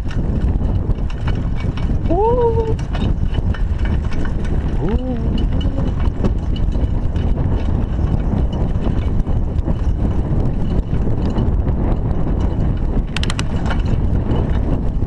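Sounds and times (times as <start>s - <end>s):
bike rattling: 0.0s - 15.0s
wind rumble on camera: 0.0s - 15.0s.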